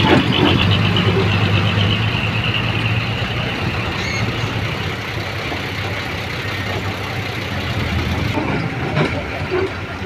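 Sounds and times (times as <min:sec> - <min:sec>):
truck engine humming: 0:00.0 - 0:10.0.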